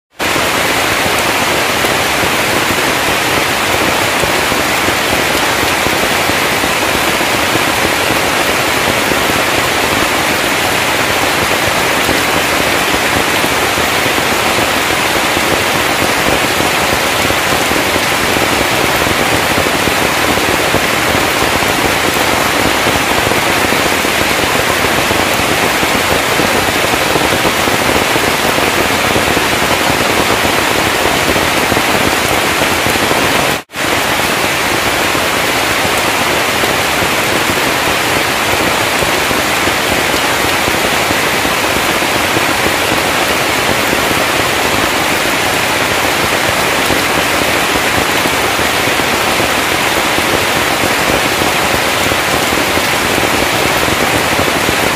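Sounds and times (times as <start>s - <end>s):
heavy rain pouring: 0.1s - 54.9s.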